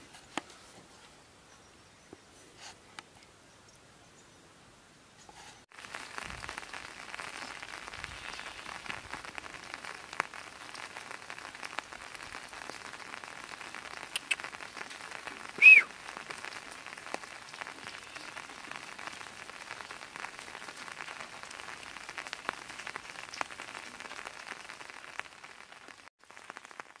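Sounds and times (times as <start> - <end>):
rain patter: 5.4 - 27.0.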